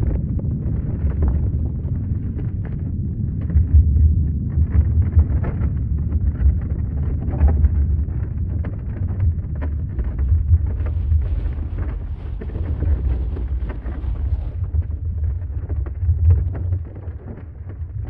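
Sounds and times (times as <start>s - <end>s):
crackling and rattling: 0.0s - 18.0s
deep earthquake rumble: 0.0s - 18.0s.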